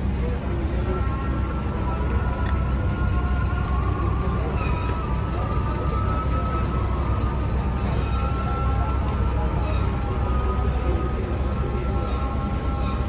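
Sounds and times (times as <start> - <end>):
faint background murmur: 0.0 - 13.0
steady low hum: 0.0 - 13.0.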